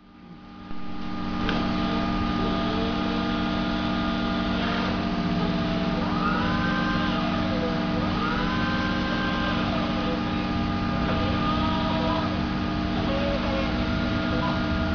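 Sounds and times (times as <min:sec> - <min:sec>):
electric forklift motor hum: 0:00.0 - 0:14.9
hydraulic whine: 0:00.0 - 0:14.9.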